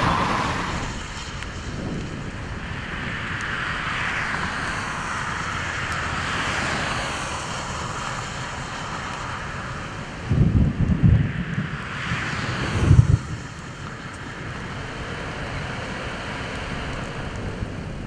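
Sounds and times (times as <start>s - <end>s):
vehicles passing: 0.0s - 18.0s
wind noise: 0.0s - 18.0s.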